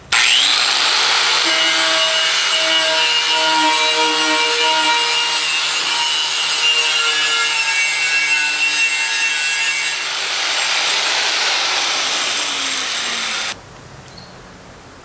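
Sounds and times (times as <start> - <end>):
angle grinder on sheet metal: 0.0 - 13.6.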